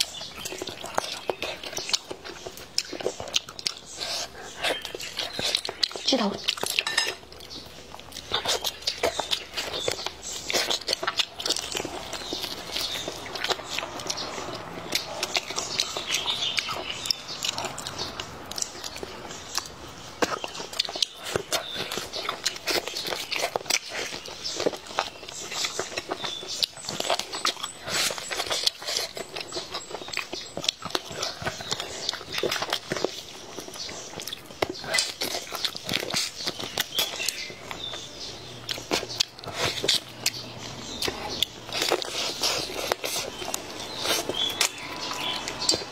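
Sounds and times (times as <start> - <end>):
person chewing and crunching: 0.0 - 45.9.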